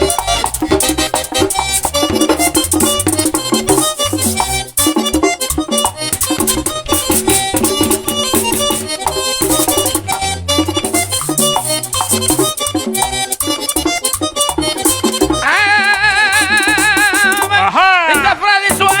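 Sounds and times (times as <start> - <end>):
accordion runs: 0.0 - 19.0
bass line: 0.0 - 19.0
percussion: 0.0 - 19.0.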